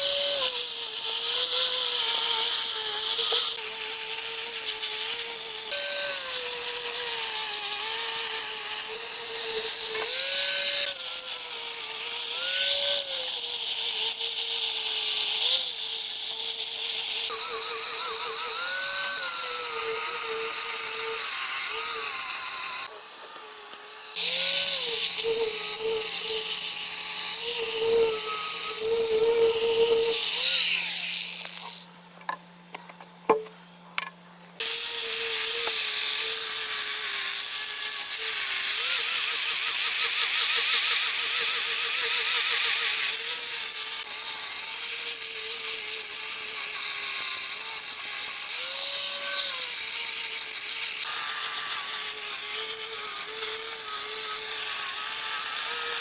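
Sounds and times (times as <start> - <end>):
chainsaw cutting wood: 0.0 - 31.9, 34.6 - 56.0.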